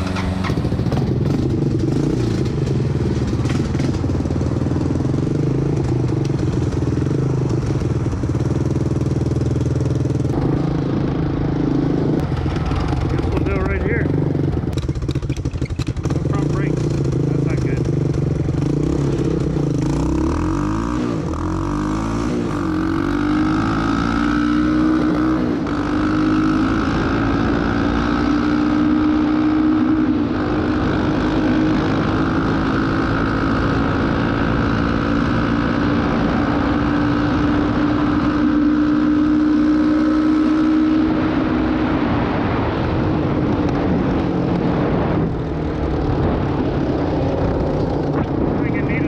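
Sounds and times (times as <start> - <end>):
atv engine accelerating: 0.0 - 49.0.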